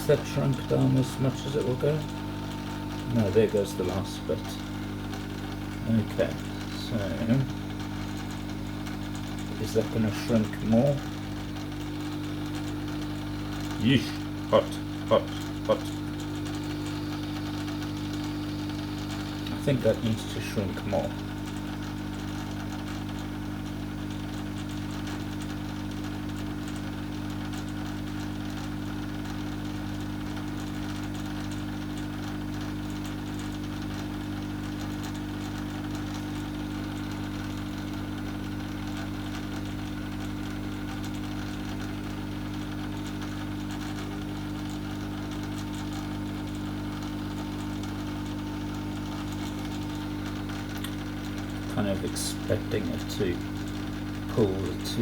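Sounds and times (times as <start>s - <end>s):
hot air tool fan humming: 0.0s - 55.0s.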